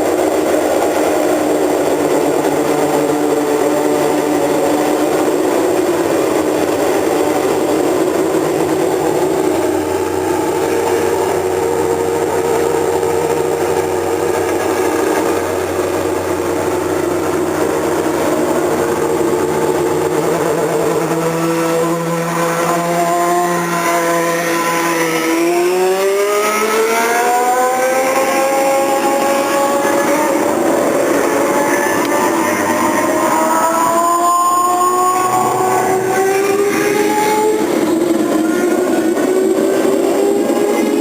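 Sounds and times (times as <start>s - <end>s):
racing car engine revving: 0.0s - 41.0s.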